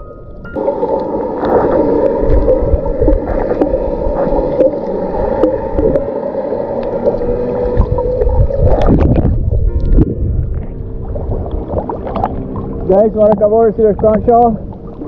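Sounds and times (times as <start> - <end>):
muffled underwater rumble: 0.0 - 15.0
steady droning hum: 0.0 - 15.0.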